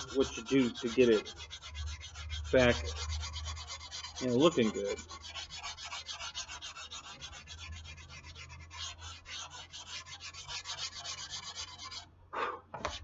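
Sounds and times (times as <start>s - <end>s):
sandpaper rubbing on foam: 0.0s - 12.1s.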